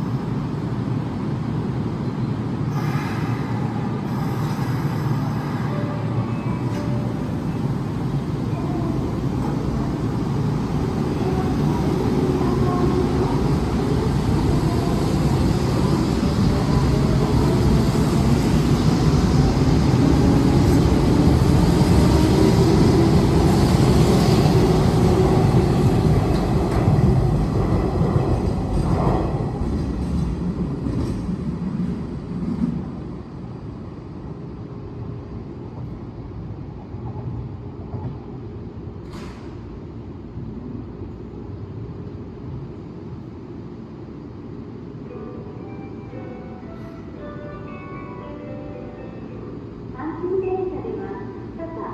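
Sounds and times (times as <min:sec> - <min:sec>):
electric train rumble: 0:00.0 - 0:51.9.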